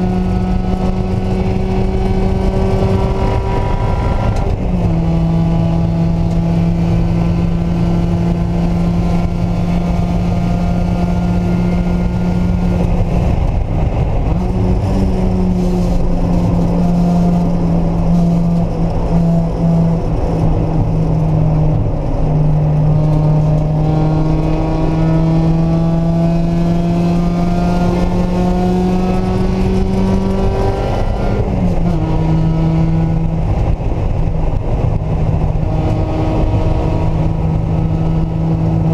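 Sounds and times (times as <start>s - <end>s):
car engine running hard: 0.0s - 38.9s
road and wind noise: 0.0s - 38.9s.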